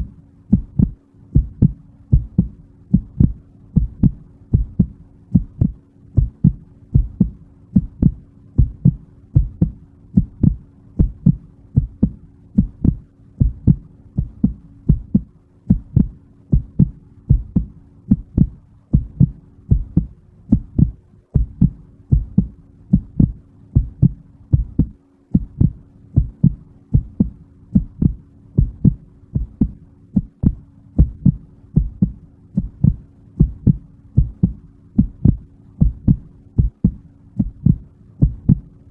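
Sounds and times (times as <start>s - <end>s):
faint hum: 0.0s - 38.9s
heartbeat: 0.0s - 38.9s.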